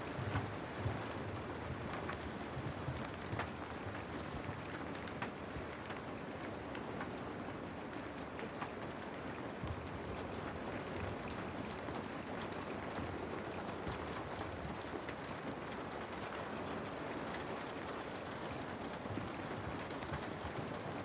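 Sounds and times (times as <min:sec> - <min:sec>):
rain drops ticking: 0:00.0 - 0:21.0.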